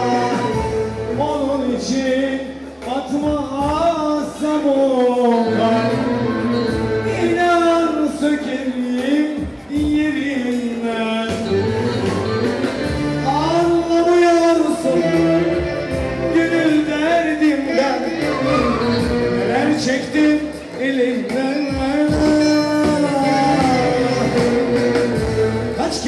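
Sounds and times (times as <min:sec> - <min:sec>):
instrumental backing: 0:00.0 - 0:26.0.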